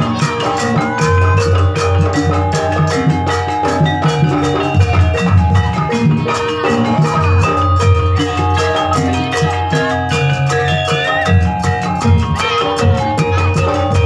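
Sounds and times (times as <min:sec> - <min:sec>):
fast even drumming: 0:00.0 - 0:14.0
tuned metal percussion notes: 0:00.0 - 0:14.0.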